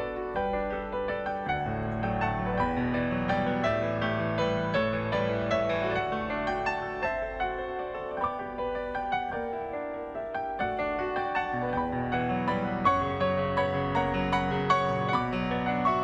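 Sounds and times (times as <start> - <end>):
slow gentle piano piece: 0.0 - 16.0.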